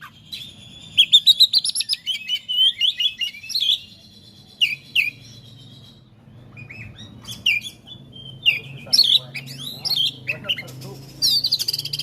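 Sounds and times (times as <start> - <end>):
bird chirping and whistling: 0.0 - 12.0.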